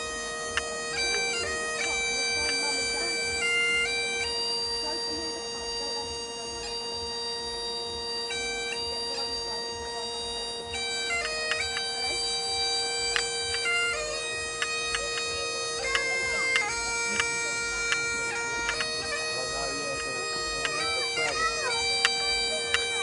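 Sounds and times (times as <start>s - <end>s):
bagpipes playing: 0.0s - 23.0s.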